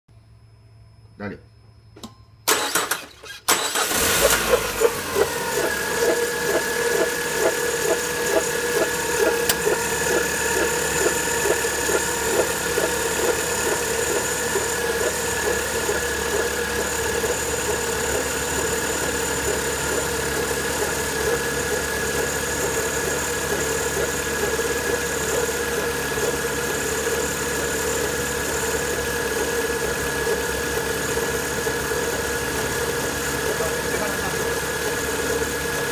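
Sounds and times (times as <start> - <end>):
car engine starting and idling: 2.4 - 35.9.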